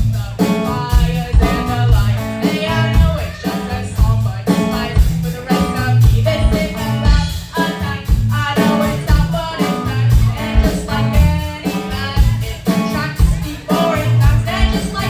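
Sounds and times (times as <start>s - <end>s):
person singing: 0.0s - 15.0s
rock band playing live: 0.0s - 15.0s.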